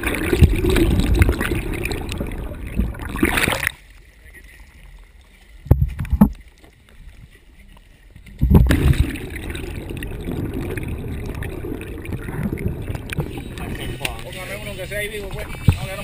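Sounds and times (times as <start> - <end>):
muffled underwater rush and bubbles: 0.0 - 16.0
water splashing against boat: 0.0 - 16.0.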